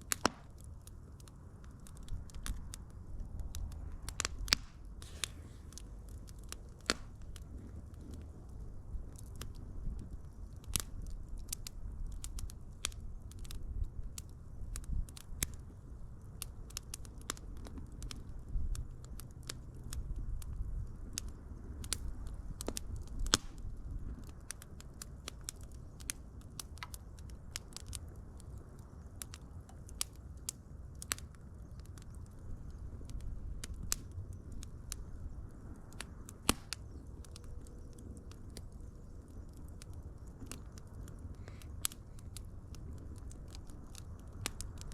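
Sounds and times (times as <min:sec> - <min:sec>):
low rush of flame: 0:00.0 - 0:44.9
wood fire crackling and popping: 0:00.0 - 0:44.9.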